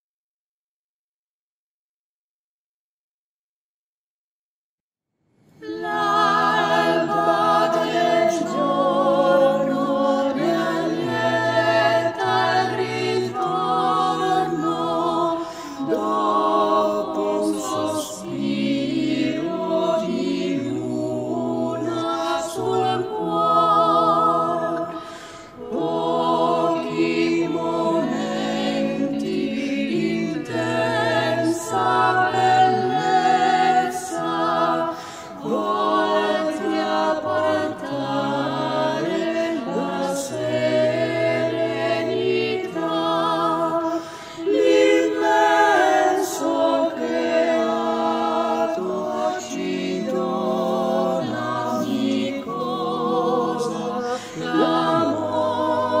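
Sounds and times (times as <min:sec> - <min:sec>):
a cappella ensemble singing harmony: 0:05.5 - 0:56.0.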